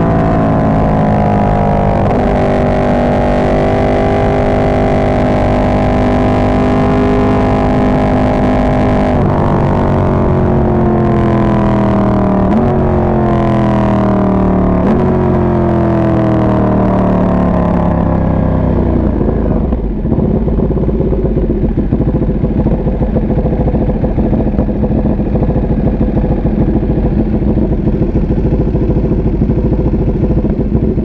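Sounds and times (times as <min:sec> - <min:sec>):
motorcycle downshifts: 0:00.0 - 0:31.0
motorcycle engine revving: 0:00.0 - 0:31.0.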